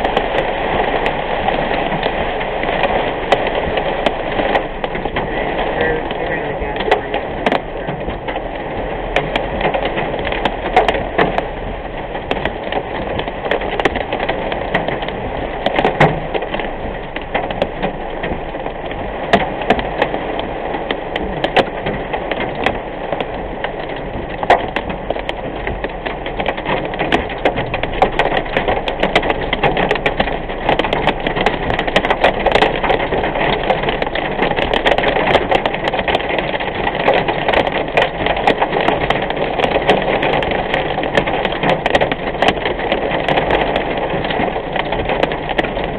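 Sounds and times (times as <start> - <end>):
heavy rain on car roof: 0.0 - 45.9
road noise: 0.0 - 45.9.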